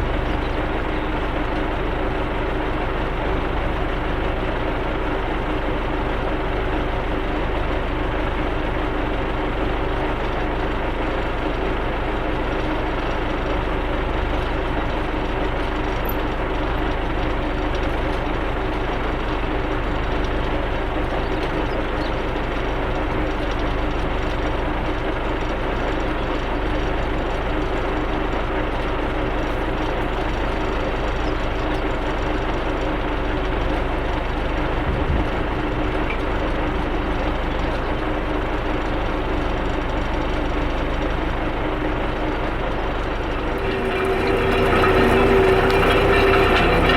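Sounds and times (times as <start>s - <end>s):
tractor engine rumbling: 0.0s - 46.9s.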